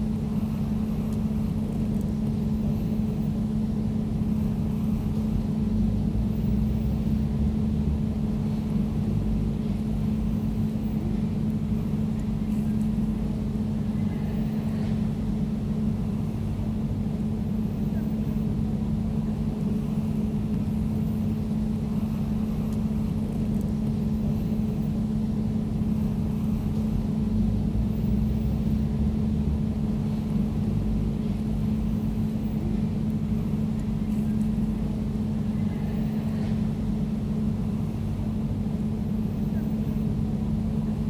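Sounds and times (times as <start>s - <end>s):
air conditioner humming: 0.0s - 41.0s.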